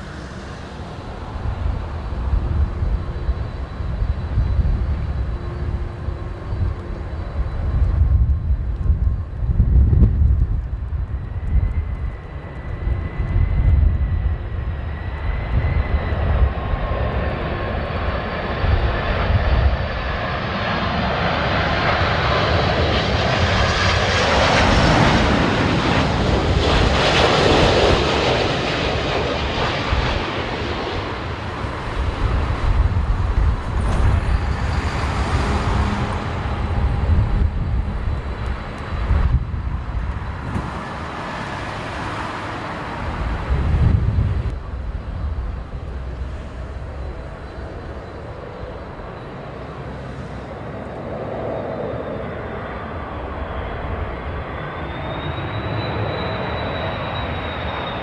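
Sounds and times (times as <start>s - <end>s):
wind buffeting microphone: 0.0s - 49.9s
jet airliner passing: 0.0s - 58.0s.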